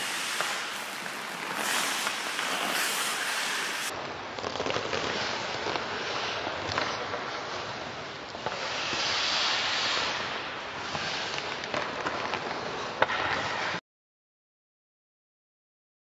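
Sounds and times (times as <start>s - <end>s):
hockey sticks and pucks clacking: 0.0s - 13.8s
skate blades scraping ice: 0.0s - 13.8s.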